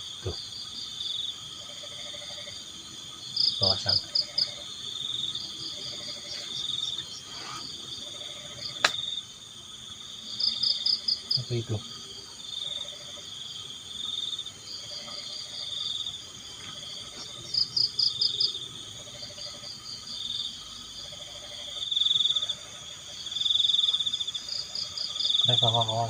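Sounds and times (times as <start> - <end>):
crickets trilling: 0.0 - 26.0
frogs croaking: 0.0 - 26.0.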